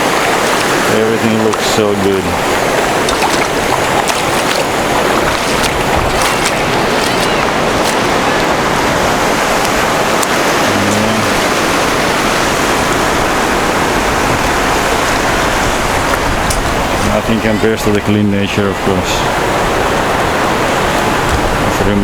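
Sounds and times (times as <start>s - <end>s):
sea surf washing onto shore: 0.0s - 22.0s.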